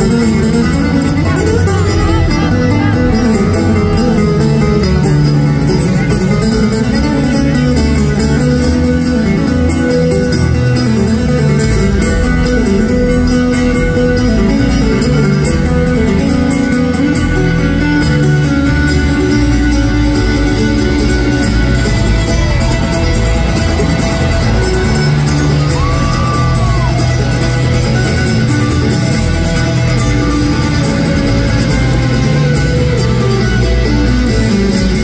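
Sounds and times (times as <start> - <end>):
bluegrass string band through pa: 0.0 - 35.0.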